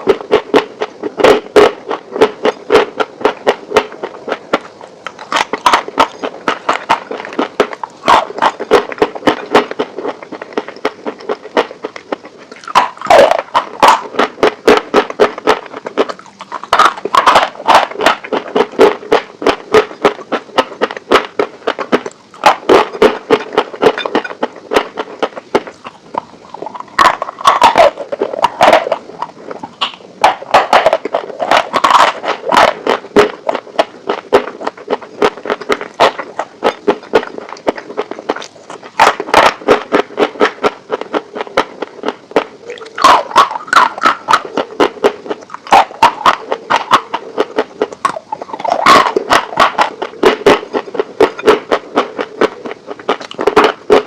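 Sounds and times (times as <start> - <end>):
crunching and chewing chicken: 0.0 - 54.0.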